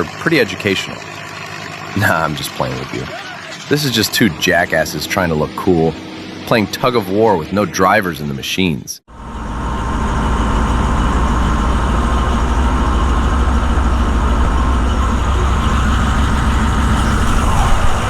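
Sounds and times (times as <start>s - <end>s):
diesel engine rumbling: 0.0s - 7.1s, 9.1s - 18.0s.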